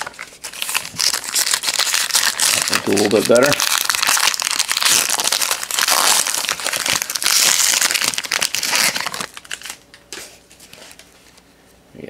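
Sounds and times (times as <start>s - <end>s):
plastic wrapper tearing and crinkling: 0.0s - 9.9s.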